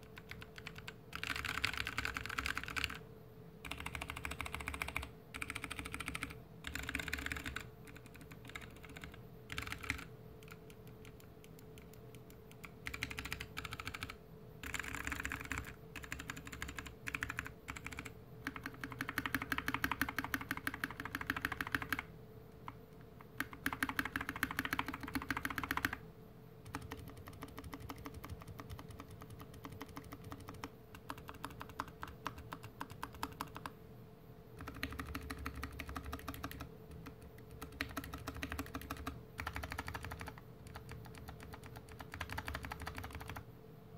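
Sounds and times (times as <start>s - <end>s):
mechanical keyboard typing clicks: 0.1s - 3.0s, 3.6s - 26.0s, 26.6s - 33.7s, 34.6s - 43.4s.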